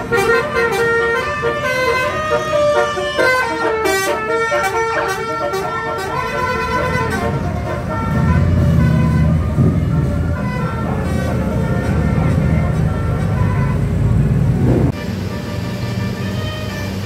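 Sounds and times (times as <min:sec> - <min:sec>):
low engine rumble: 0:00.0 - 0:17.0
multi-tone bus horn tune: 0:00.0 - 0:17.0.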